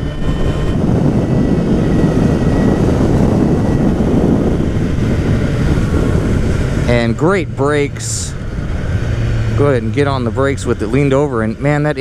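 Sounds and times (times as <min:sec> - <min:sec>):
motorcycle engine running: 0:00.0 - 0:12.0
road noise: 0:00.0 - 0:12.0
wind rush: 0:00.0 - 0:12.0.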